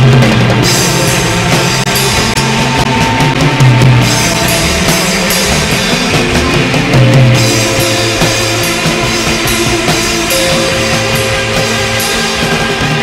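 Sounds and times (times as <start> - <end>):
psychedelic rock music: 0.0 - 13.0.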